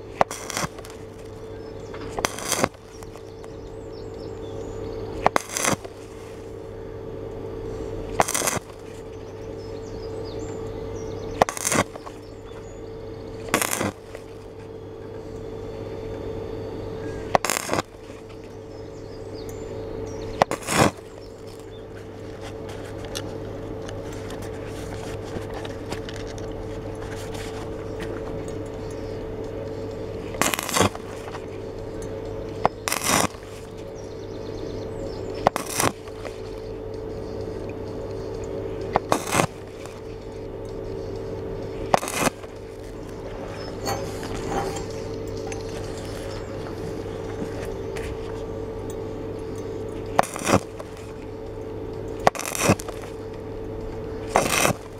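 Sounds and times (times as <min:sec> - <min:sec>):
welding arc crackling: 0:00.0 - 0:15.8, 0:17.3 - 0:18.6, 0:20.0 - 0:54.9
steady electrical hum: 0:00.0 - 0:54.9.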